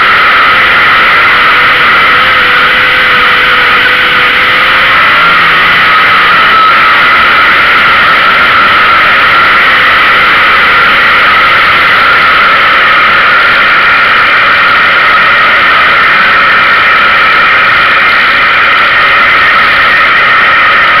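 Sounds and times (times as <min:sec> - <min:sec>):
race car engine running hard: 0:00.0 - 0:21.0.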